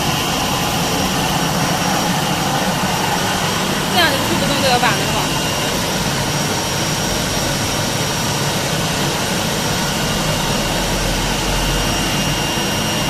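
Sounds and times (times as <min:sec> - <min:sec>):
high whine: 0:00.0 - 0:13.0
machine roar: 0:00.0 - 0:13.0.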